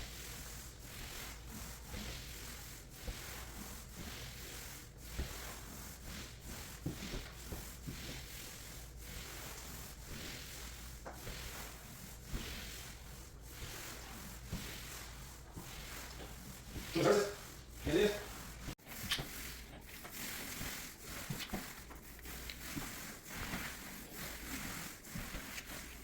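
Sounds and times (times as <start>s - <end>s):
applicator rubbing on floor: 0.0s - 26.0s.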